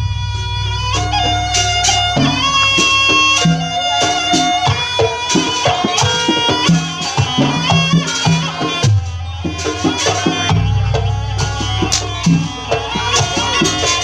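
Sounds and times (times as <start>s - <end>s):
hand-drum strokes: 0.0s - 14.0s
shrill reed-pipe melody: 0.0s - 14.0s.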